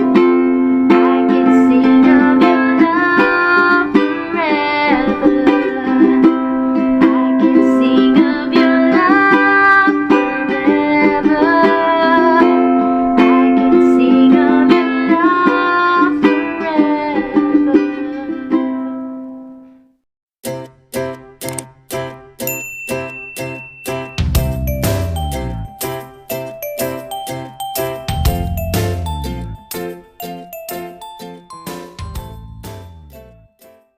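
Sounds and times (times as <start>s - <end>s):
ukulele plucked melody: 0.0s - 19.5s, 20.4s - 33.8s.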